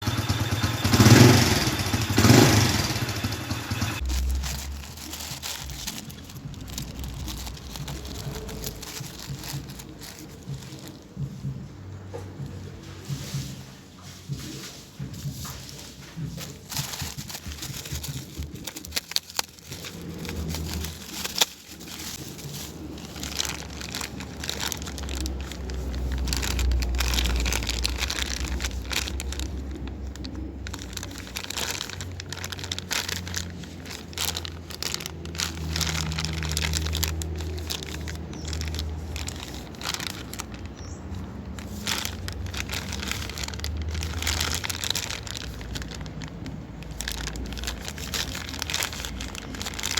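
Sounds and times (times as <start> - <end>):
packaging crinkling and rustling: 0.0 - 49.9.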